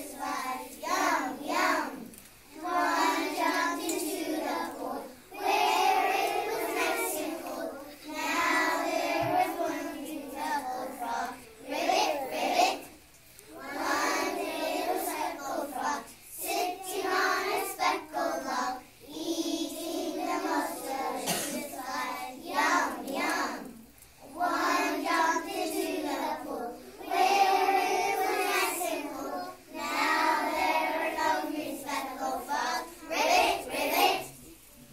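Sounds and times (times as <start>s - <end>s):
children singing in unison: 0.0s - 34.6s.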